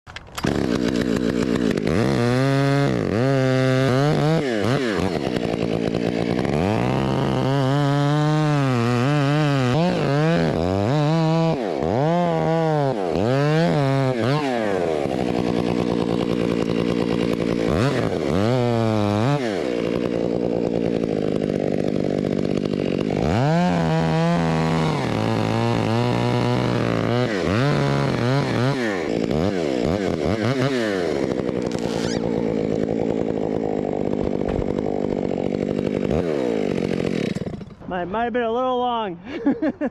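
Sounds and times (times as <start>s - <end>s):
two-stroke chainsaw revving: 0.2s - 39.8s.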